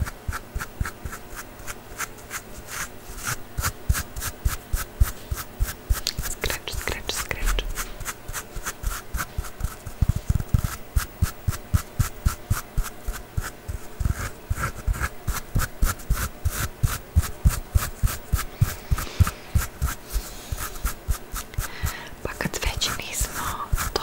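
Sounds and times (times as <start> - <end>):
scratching on a hard surface: 0.0 - 21.7, 22.3 - 24.0.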